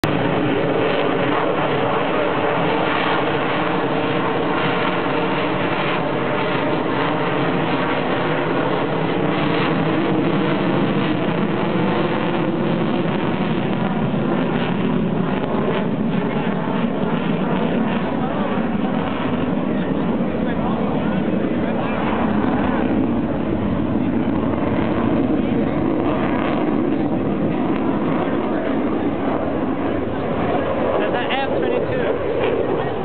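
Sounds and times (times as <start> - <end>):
jet engine roar: 0.0 - 33.0.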